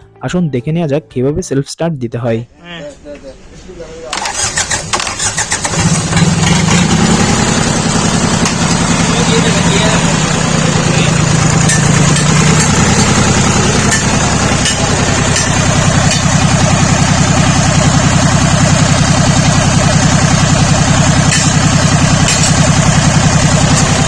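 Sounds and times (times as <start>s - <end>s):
diesel engine idling: 2.8s - 24.0s.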